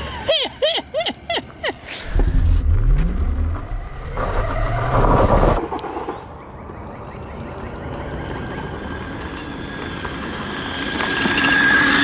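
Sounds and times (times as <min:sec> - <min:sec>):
wind rumble: 0:02.0 - 0:12.0.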